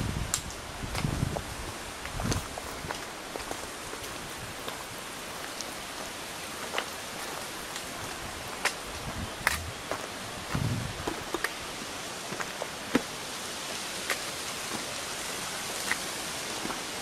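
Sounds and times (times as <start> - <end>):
mountain torrent rushing: 0.0 - 17.0.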